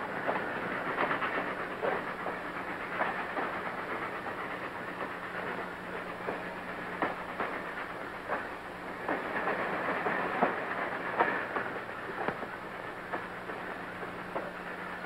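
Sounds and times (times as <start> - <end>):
train rumbling on rails: 0.0 - 15.0
wheels clacking over rail joints: 0.0 - 15.0.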